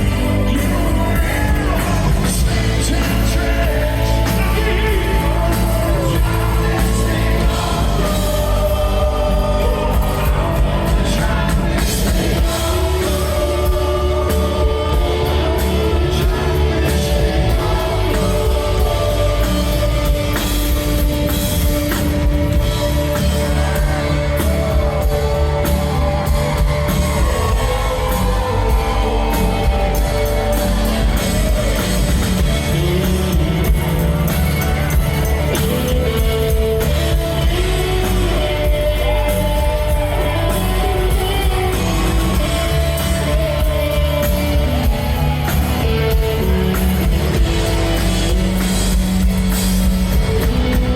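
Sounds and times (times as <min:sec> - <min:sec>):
person singing: 0:00.0 - 0:48.6
live rock band playing: 0:00.0 - 0:50.9.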